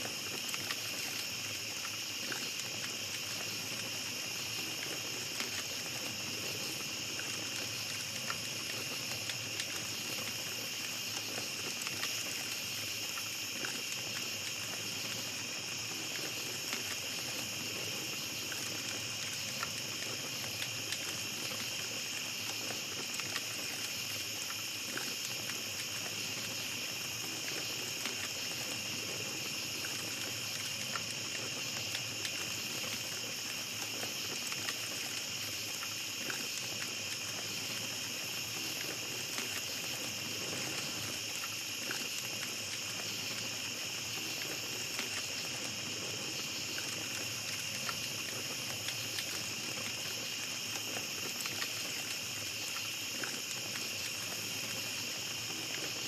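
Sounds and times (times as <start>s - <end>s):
campfire crackling: 0.0s - 56.0s
night insects chirping: 0.0s - 56.0s.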